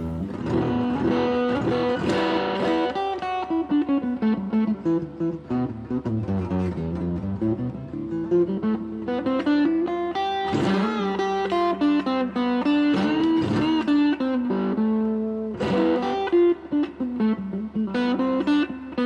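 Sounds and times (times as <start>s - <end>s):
electric guitar notes and chords: 0.0s - 19.0s.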